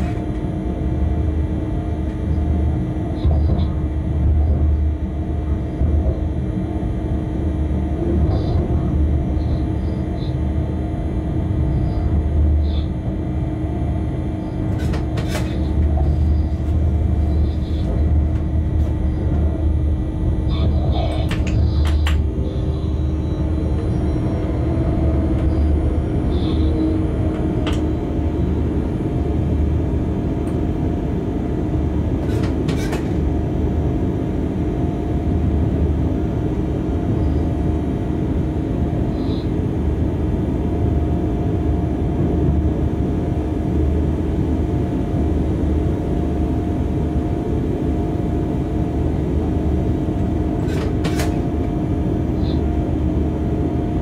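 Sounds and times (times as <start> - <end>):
locomotive rumble and hum: 0.0 - 54.0.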